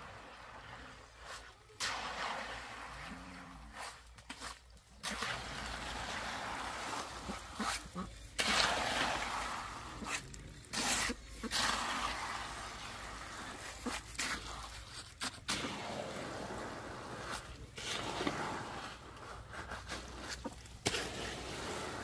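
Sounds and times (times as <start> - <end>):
hoe scraping wet concrete: 0.0 - 22.0.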